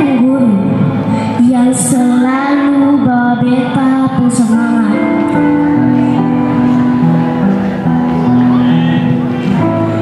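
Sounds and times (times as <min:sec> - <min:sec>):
slow gentle music: 0:00.0 - 0:10.0.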